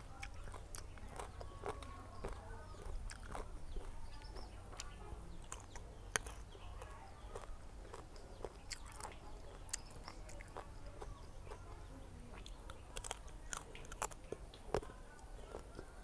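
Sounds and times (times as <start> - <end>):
crunching and chewing mango: 0.0 - 16.0.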